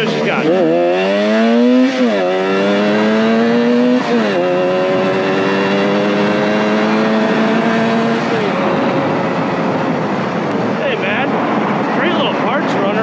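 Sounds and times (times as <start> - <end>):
motorcycle engine shifting gears: 0.0 - 12.0.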